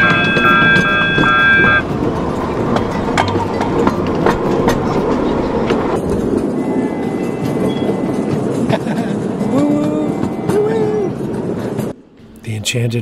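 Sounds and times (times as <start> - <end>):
train wheels clicking over rails: 0.0 - 12.0.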